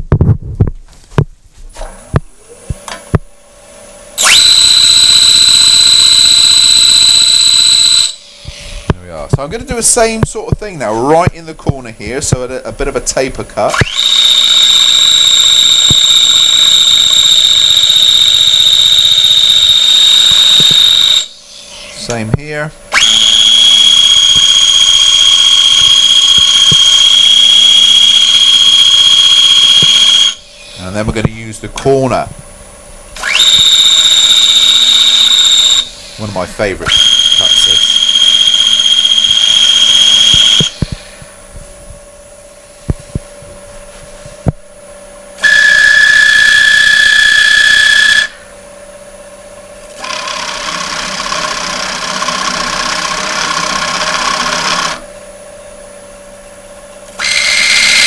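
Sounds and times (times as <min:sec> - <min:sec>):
high-pitched tool whine: 0:04.1 - 0:11.4, 0:13.6 - 0:32.2, 0:33.1 - 0:44.4, 0:45.2 - 0:55.2, 0:57.1 - 0:58.0.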